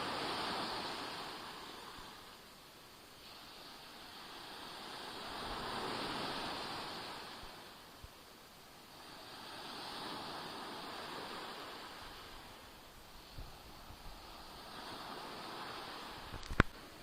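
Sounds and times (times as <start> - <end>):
waves splashing on shore: 0.0 - 17.0.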